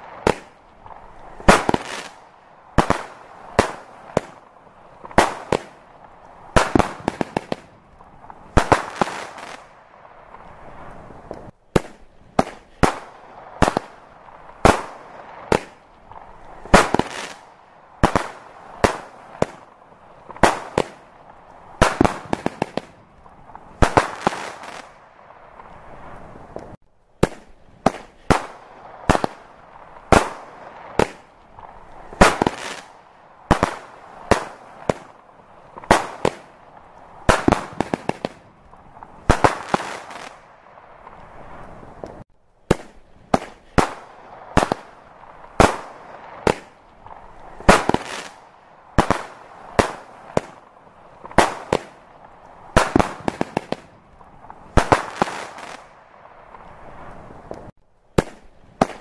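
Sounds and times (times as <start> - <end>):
fireworks exploding with sharp bangs: 0.0 - 59.0.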